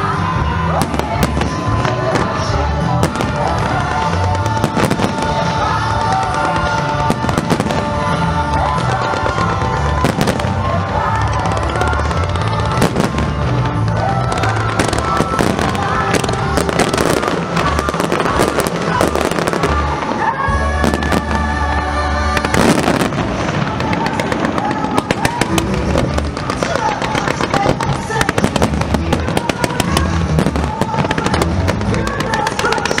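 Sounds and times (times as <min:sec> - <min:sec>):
fireworks bangs and crackles: 0:00.0 - 0:33.0
music playing: 0:00.0 - 0:33.0.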